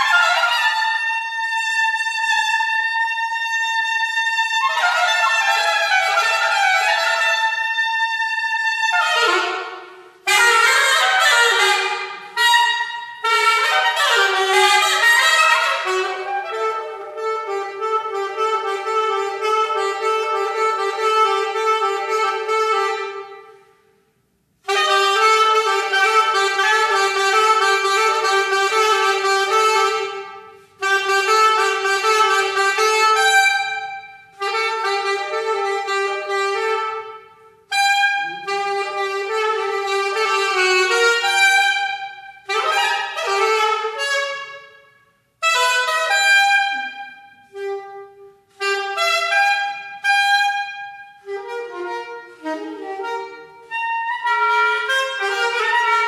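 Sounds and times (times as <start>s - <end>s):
saxophone playing: 0.0s - 56.0s.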